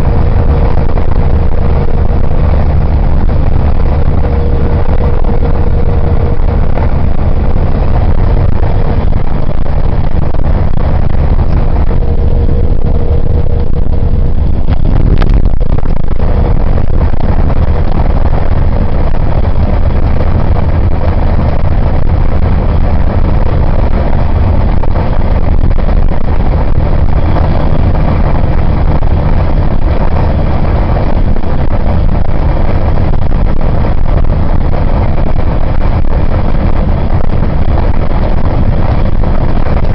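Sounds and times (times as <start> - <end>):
engine and road rumble: 0.0 - 39.9
thin steady whine: 0.0 - 39.9.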